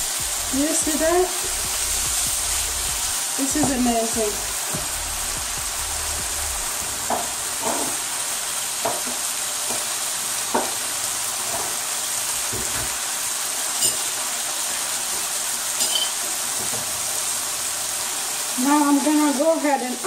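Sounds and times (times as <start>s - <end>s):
chicken sizzling in a frying pan: 0.0s - 20.0s.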